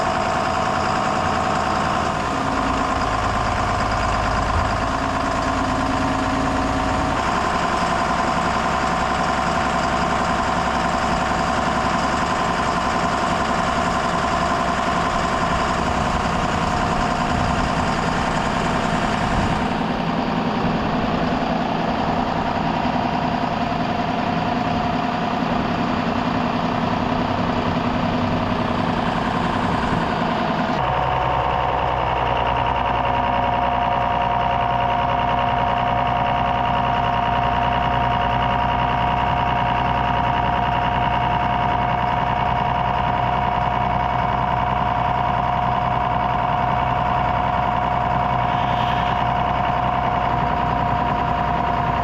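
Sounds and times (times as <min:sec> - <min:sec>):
diesel tractor engine running: 0:00.0 - 0:52.0.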